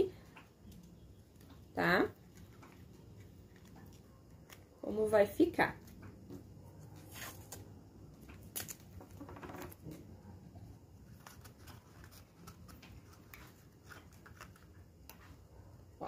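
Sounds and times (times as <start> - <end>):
tape rustling and crackling: 0.1 - 15.9.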